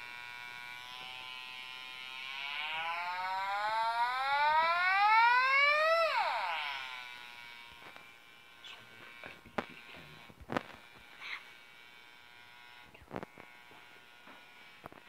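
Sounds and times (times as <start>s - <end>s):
metal detector buzzing tone: 0.5s - 15.0s.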